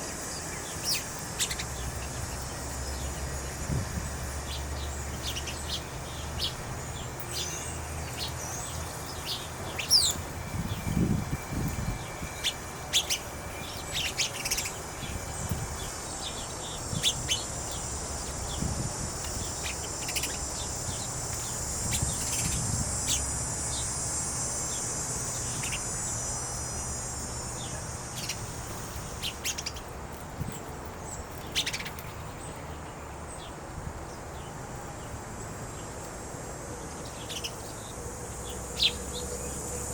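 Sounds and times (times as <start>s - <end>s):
steady high buzz: 0.0s - 39.9s
wild birds chirping: 0.0s - 39.9s.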